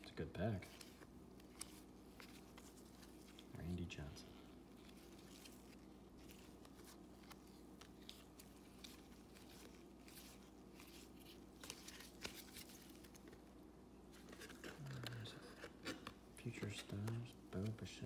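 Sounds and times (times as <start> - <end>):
trading cards flipped by hand: 0.6 - 3.5, 4.6 - 18.0.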